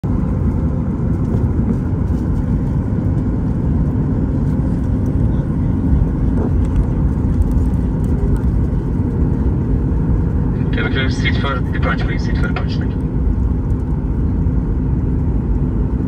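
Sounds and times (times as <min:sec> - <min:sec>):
aircraft cabin taxiing rumble: 0:00.0 - 0:16.0.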